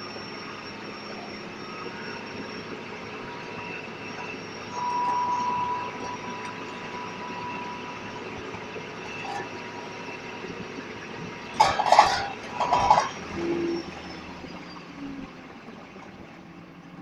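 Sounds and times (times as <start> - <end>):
thin steady whistle: 0.0 - 11.7, 12.7 - 15.3
bus engine running: 0.0 - 17.0.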